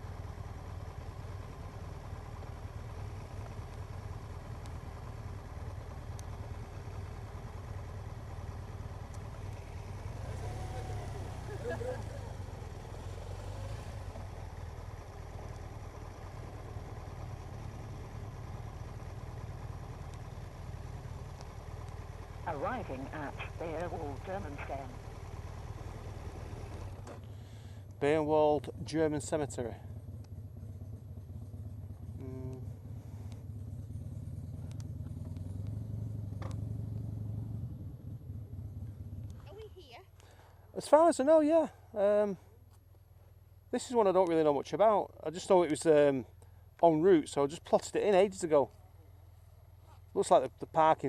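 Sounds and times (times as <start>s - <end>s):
motorcycle engine running: 0.0s - 44.5s, 45.1s - 51.0s
road and wind noise: 0.0s - 51.0s.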